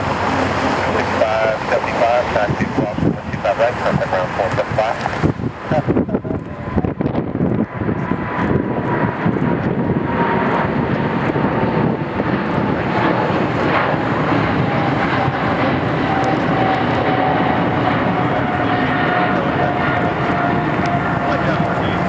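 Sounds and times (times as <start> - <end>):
high jet whine: 0.0 - 22.0
jet engine roar: 0.0 - 22.0.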